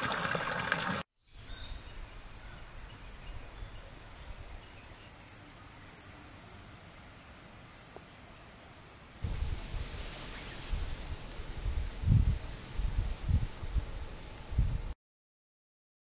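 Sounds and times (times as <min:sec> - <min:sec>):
insects droning: 0:01.2 - 0:15.0
broad hissing noise: 0:01.3 - 0:15.0.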